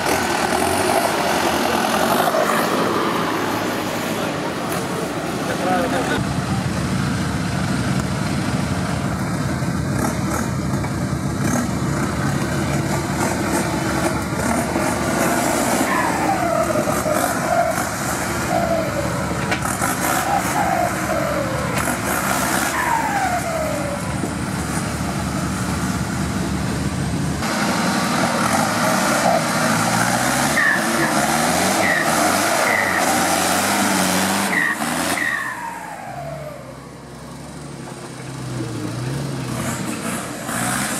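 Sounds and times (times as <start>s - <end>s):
engine revving under load: 0.0s - 40.9s.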